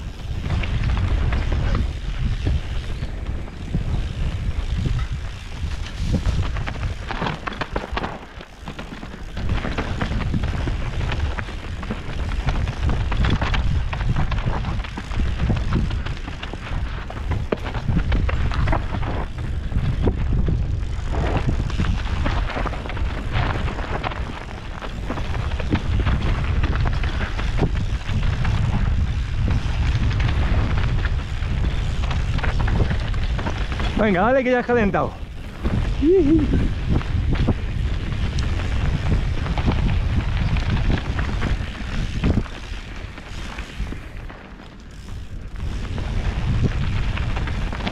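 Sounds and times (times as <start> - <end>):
bike rattling and knocking: 0.0 - 47.9
tyres on dirt and stones: 0.0 - 47.9
wind buffeting microphone: 0.0 - 47.9.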